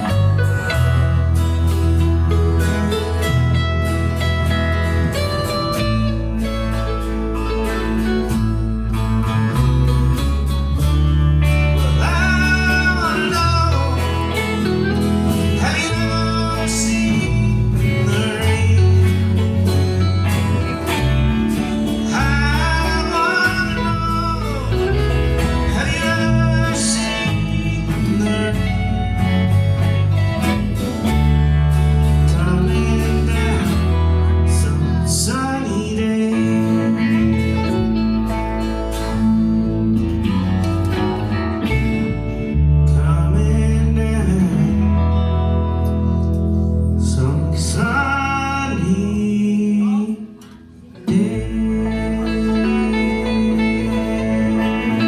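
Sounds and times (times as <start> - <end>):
acoustic string band playing: 0.0 - 49.5, 50.4 - 55.0.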